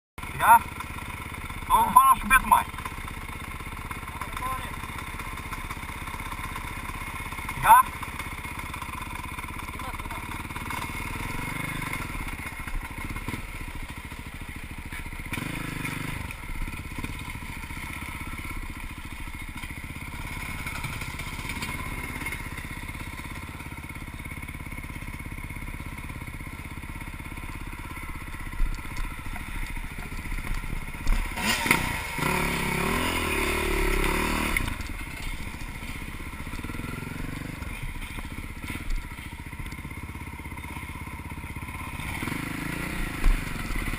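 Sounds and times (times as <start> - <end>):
off-road vehicle engine: 0.2 - 43.9.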